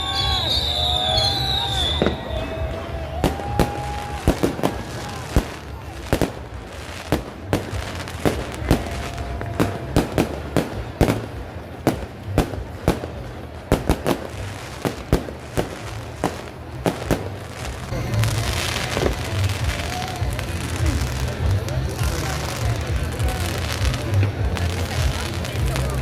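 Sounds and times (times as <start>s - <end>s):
fireworks bangs: 0.0s - 26.0s
fireworks crackle: 0.0s - 26.0s.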